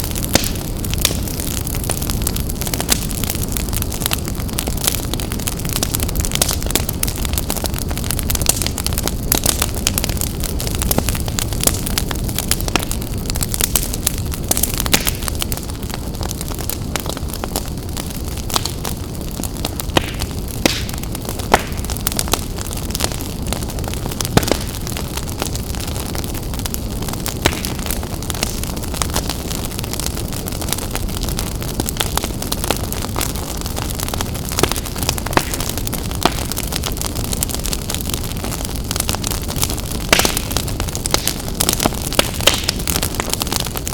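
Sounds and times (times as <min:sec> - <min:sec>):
fire crackling and popping: 0:00.0 - 0:43.9
rush of fire flames: 0:00.0 - 0:43.9.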